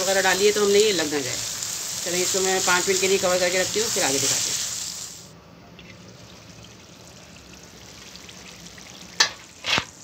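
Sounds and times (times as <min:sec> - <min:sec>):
faint bubbling hiss of simmering: 0:00.0 - 0:10.0.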